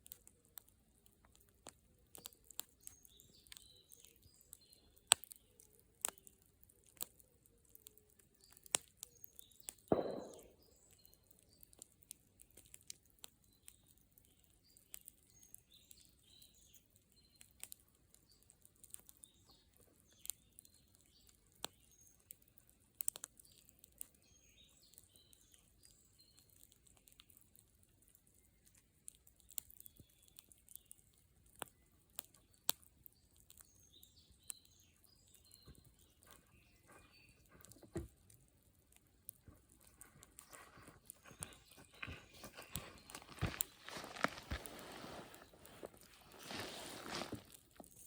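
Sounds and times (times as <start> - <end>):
bonfire crackling and popping: 0.0 - 48.0.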